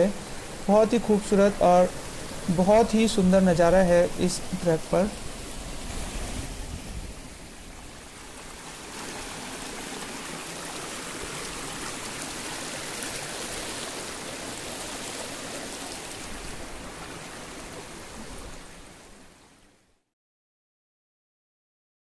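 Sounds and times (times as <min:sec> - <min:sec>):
stream rushing over rocks: 0:00.0 - 0:19.8.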